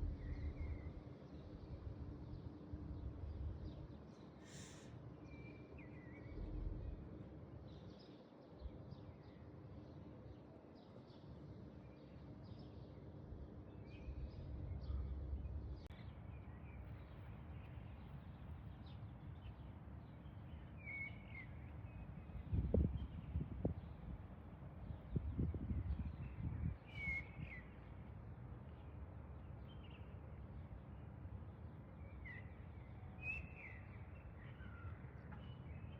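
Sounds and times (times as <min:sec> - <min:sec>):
low outdoor background noise: 0:00.0 - 0:35.9.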